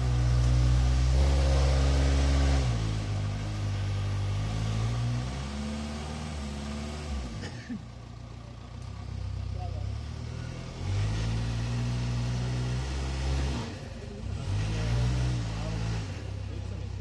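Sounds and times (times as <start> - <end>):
vehicle engine revving: 0.0 - 7.5, 8.8 - 17.0.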